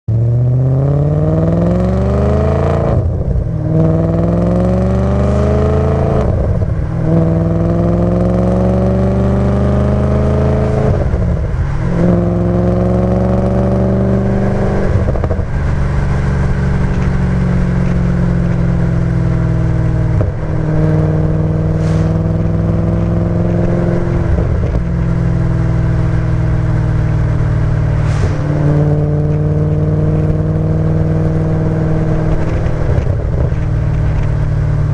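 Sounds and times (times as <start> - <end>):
car engine revving through gears: 0.1 - 34.9.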